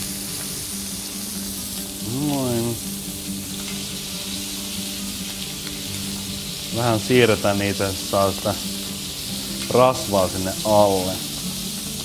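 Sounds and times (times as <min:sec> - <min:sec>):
steaks sizzling in a pan: 0:00.0 - 0:12.0.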